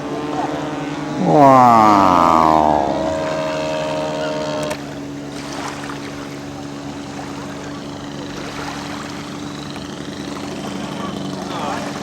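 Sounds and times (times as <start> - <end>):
water noise: 0.0 - 10.8
model plane engine humming: 0.0 - 12.0.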